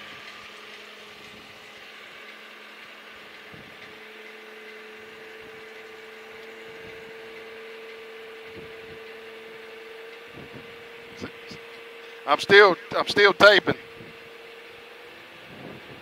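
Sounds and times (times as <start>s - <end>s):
machine hum with whine: 0.0s - 16.0s.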